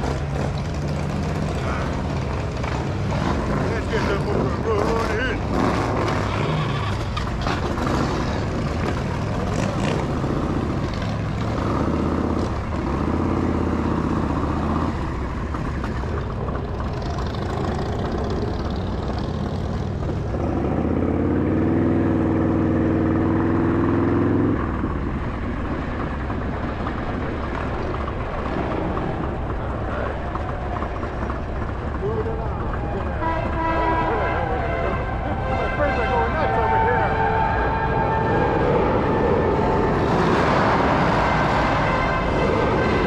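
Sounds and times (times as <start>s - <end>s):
motorcycle engine idling and revving: 0.0s - 43.0s.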